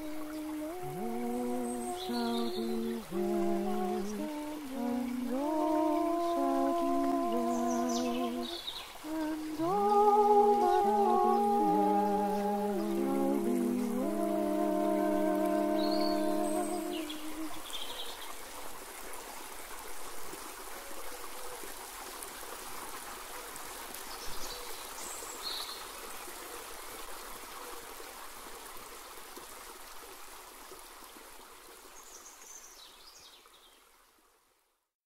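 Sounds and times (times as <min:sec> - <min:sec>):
flowing water: 0:00.0 - 0:34.4.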